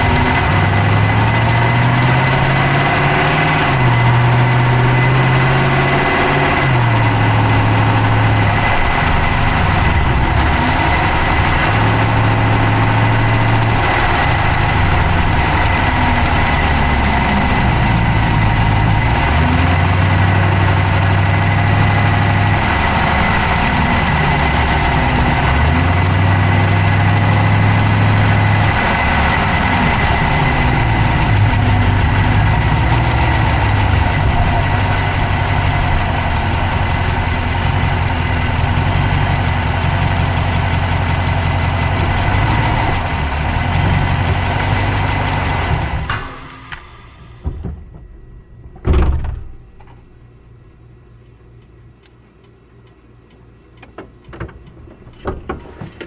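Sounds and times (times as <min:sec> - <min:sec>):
low hum changing pitch: 0:00.0 - 0:52.1
car engine idling: 0:00.0 - 0:56.0.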